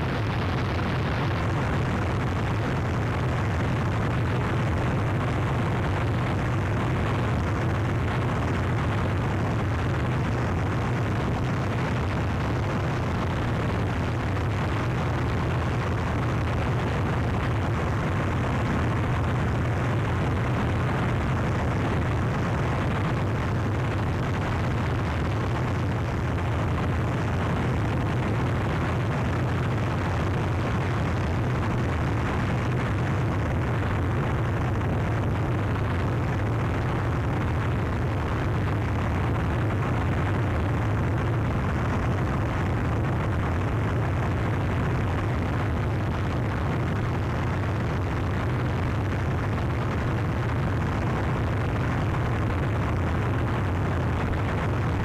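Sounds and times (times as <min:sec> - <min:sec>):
heavy low rumble: 0:00.0 - 0:55.0
static noise wall: 0:00.0 - 0:55.0.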